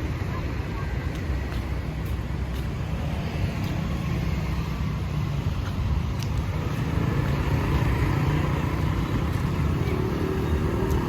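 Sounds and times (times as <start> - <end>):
city road traffic rumble: 0.0 - 11.0.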